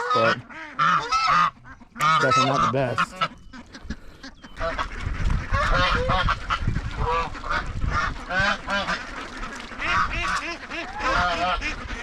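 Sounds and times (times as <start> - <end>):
ducks calling: 0.0 - 12.0
geese honking: 0.0 - 12.0.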